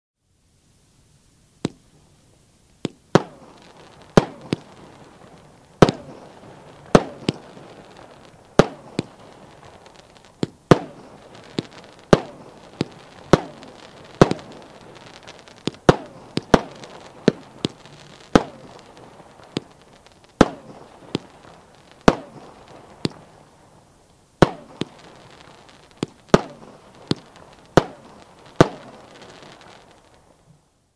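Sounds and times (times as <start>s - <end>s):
fireworks hiss: 0.3s - 30.9s
fireworks bangs: 1.3s - 30.8s.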